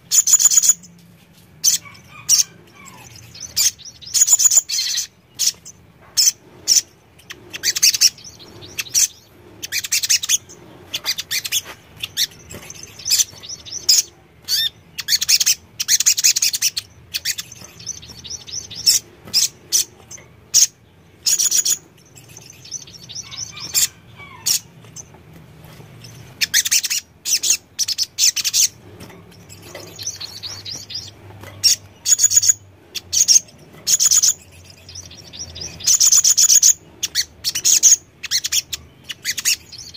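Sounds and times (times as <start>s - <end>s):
bird chirping and trilling: 0.0s - 1.0s, 1.6s - 25.2s, 26.0s - 39.9s.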